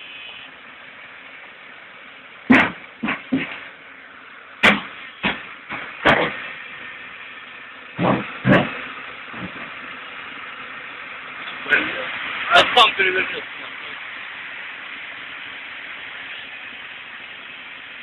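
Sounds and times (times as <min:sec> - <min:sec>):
excavator diesel engine idling: 0:00.0 - 0:18.0.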